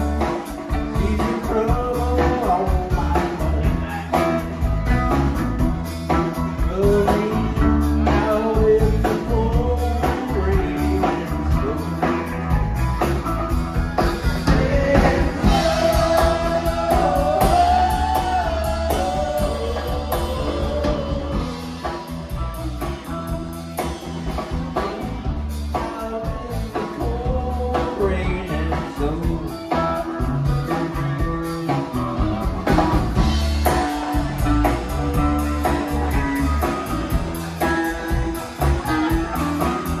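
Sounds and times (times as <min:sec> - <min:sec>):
blues-rock band playing: 0:00.0 - 0:40.0.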